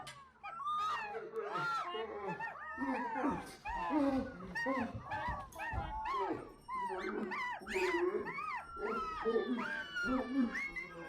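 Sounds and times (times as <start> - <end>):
flock of birds shrieking: 0.0 - 11.0.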